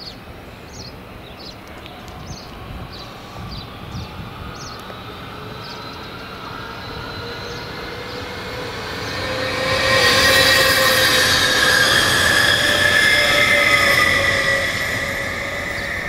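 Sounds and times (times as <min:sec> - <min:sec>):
electric train rolling and whining: 0:00.0 - 0:16.0.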